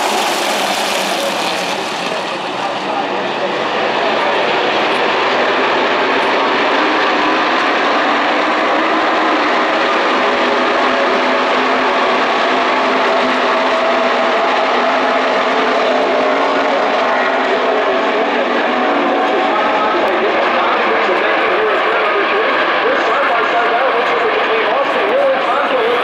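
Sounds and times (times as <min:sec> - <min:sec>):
race truck engines roaring: 0:00.0 - 0:26.0.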